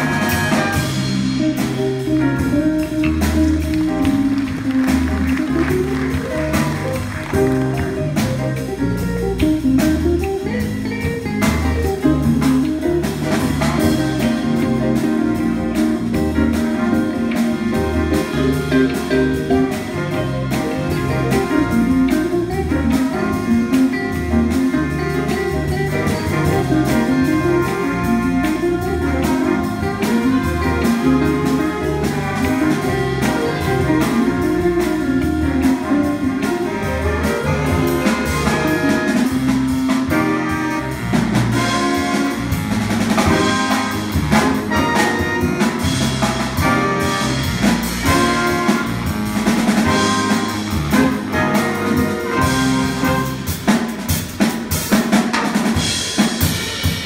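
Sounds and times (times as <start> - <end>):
bass line: 0.0 - 57.0
jazz big band playing: 0.0 - 57.0.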